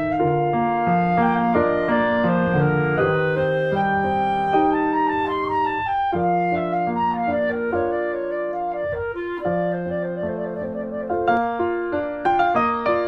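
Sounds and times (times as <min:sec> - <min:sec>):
instrumental background music: 0:00.0 - 0:13.0.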